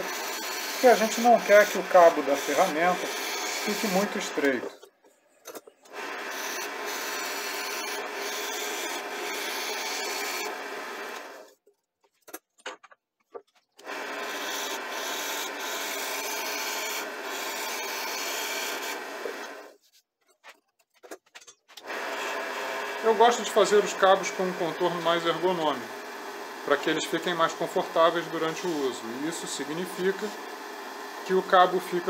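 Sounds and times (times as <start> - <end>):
gouge cutting wood on a lathe: 0.0 - 4.6, 5.9 - 11.5, 13.8 - 19.7, 21.9 - 32.0.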